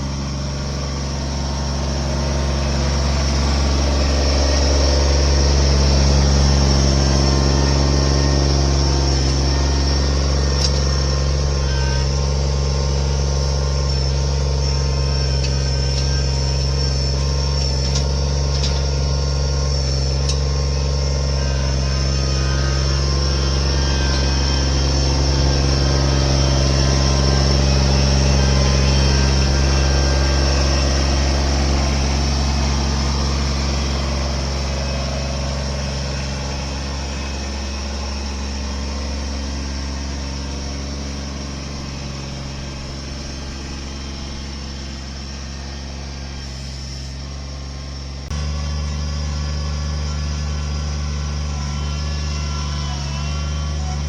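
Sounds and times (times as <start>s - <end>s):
large engine running: 0.0s - 54.0s.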